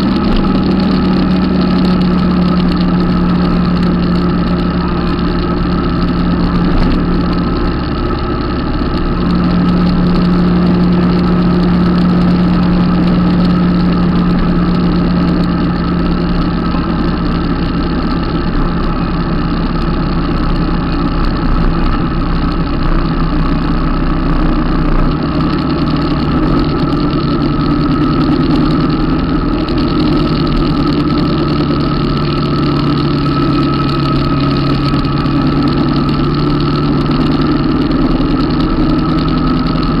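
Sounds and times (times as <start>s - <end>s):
motorcycle engine drone: 0.0s - 40.0s
road and wind noise: 0.0s - 40.0s.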